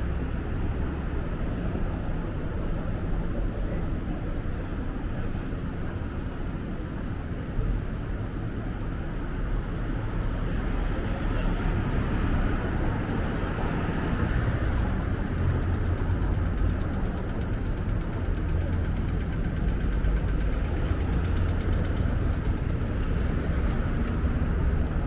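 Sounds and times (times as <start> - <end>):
passing vehicles rumble: 0.0 - 25.0.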